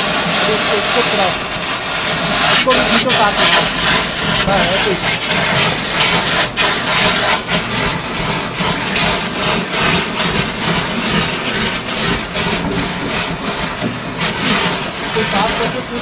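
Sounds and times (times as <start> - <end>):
wet vacuum sucking liquid: 0.0 - 16.0.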